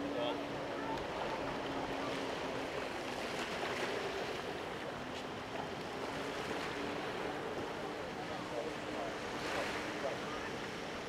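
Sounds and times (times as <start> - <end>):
calm sea water: 0.0 - 11.0
wind: 0.0 - 11.0.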